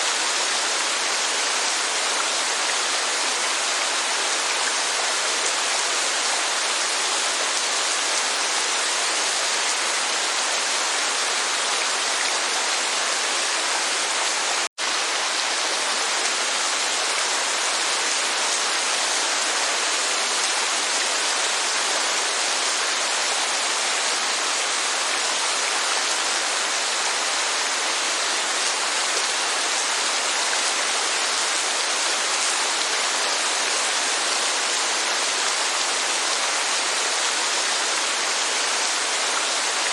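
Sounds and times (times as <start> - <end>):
heavy rain rushing: 0.0 - 39.9.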